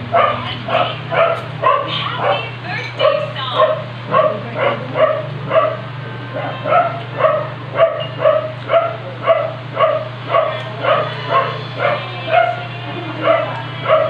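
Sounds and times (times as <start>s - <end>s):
steady low hum: 0.0s - 14.0s
dog barking: 0.1s - 14.0s.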